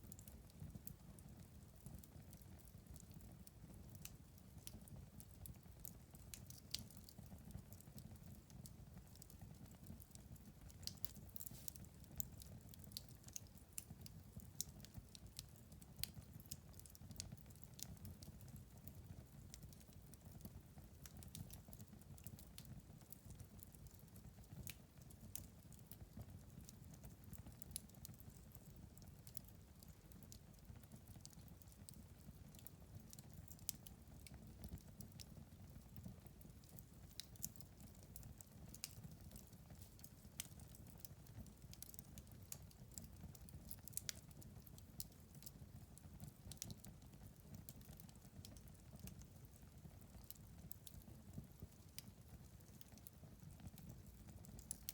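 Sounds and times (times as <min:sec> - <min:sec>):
low rumble of flames: 0:00.1 - 0:54.9
wood fire crackling and popping: 0:00.1 - 0:54.9.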